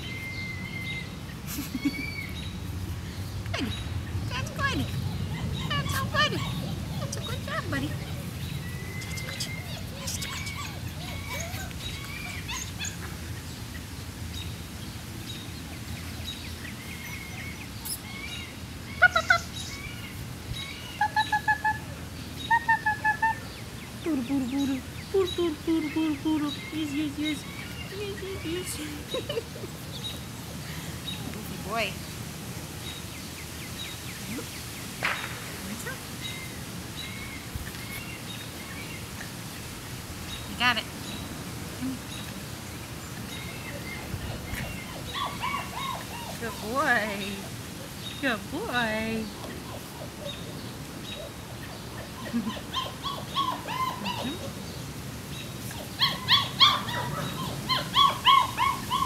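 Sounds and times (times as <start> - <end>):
outdoor background noise: 0.0 - 59.0
small birds chirping: 0.0 - 59.0.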